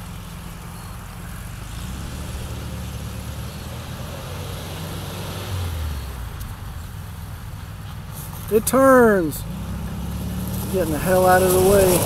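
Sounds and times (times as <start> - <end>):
car engine driving: 0.0 - 12.0.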